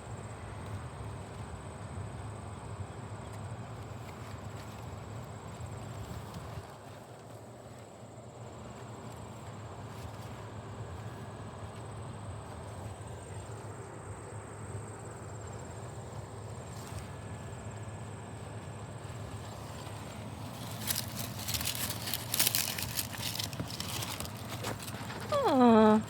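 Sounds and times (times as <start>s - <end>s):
leaves rustling and crackling: 3.6s - 26.0s.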